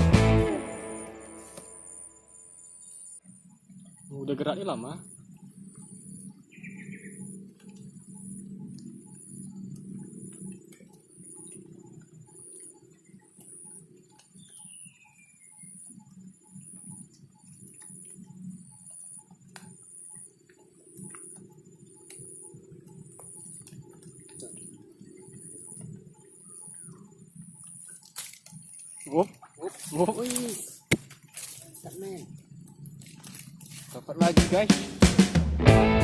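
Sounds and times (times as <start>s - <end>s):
high ticking chirp: 0.0s - 34.7s
steady low hum: 0.0s - 36.0s.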